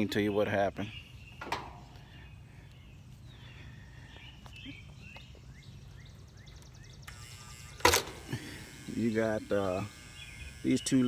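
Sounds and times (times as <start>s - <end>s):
bird chirping: 0.0s - 7.9s, 8.5s - 11.0s.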